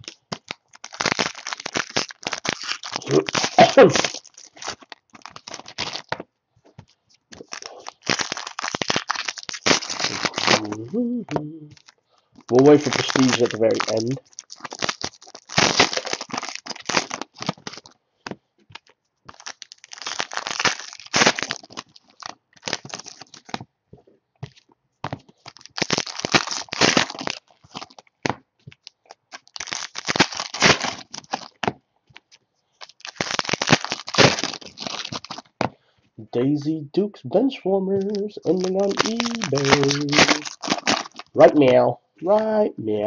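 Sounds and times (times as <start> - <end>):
foil wrappers tearing and crinkling: 0.0 - 6.2, 7.3 - 10.9, 11.7 - 18.0, 18.7 - 23.6, 24.5 - 31.6, 32.2 - 35.6, 37.9 - 41.4.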